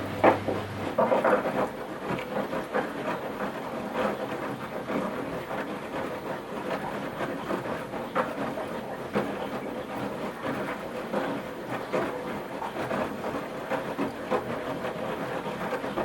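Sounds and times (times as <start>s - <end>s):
water sloshing in washing machine: 0.0s - 16.0s.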